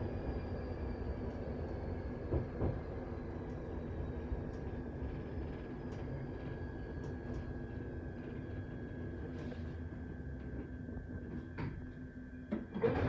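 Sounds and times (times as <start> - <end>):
train rumbling on board: 0.0 - 13.0.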